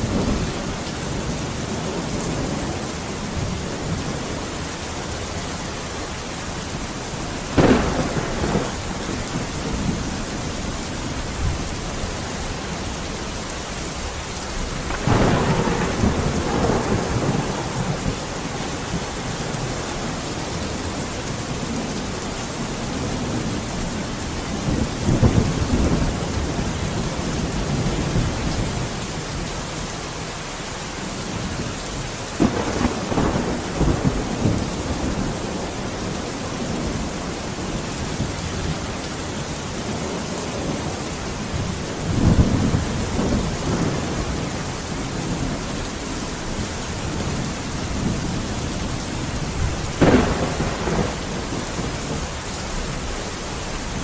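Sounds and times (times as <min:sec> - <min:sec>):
thunder rumbling: 0:00.0 - 0:28.9, 0:32.4 - 0:54.0
steady rain falling: 0:00.0 - 0:54.0.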